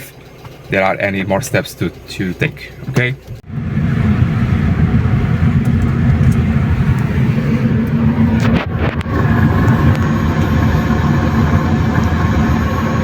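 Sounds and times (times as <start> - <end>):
engine clicks: 0.0 - 3.5, 4.8 - 12.9
car engine running: 0.0 - 13.0.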